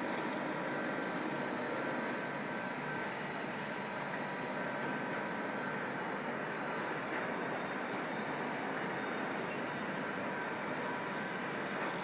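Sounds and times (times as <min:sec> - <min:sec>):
mechanical drone with high whine: 0:00.0 - 0:12.0.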